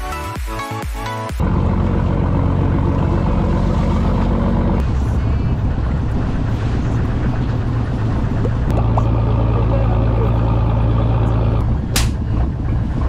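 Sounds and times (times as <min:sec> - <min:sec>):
boat engine running: 0:01.4 - 0:13.0.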